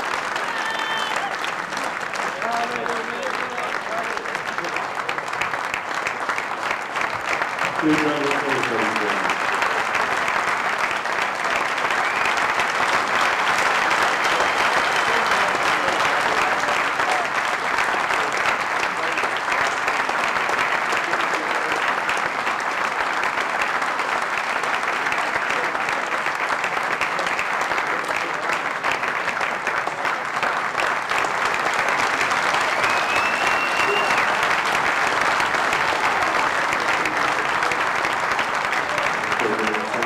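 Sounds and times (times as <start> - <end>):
large audience applauding: 0.0 - 40.0.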